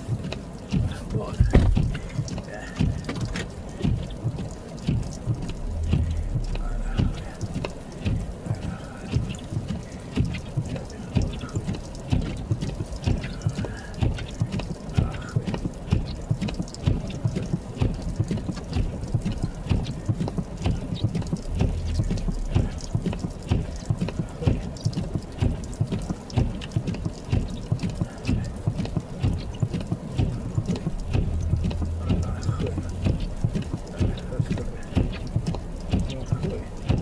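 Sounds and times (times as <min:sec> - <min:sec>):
low steady rumble: 0:00.0 - 0:37.0.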